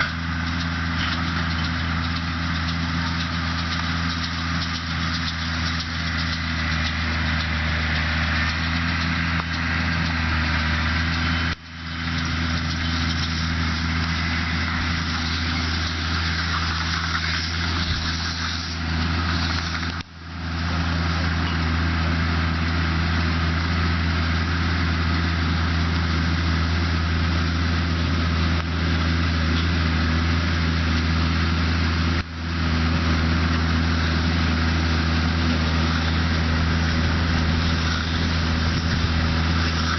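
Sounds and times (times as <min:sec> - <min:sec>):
constant rushing noise: 0:00.0 - 0:39.9
tractor engine running: 0:00.0 - 0:39.9.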